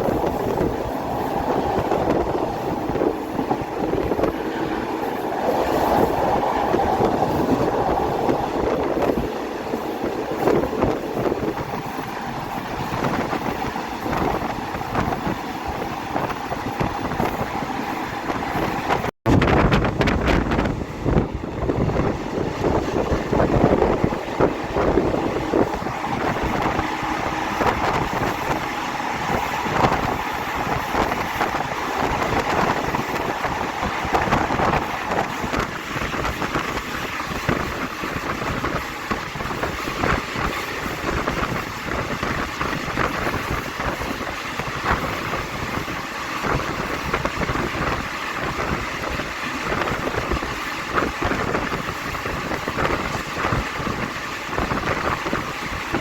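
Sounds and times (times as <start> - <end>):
train carriage rumbling on rails: 0.0 - 56.0
wind on microphone: 0.0 - 56.0.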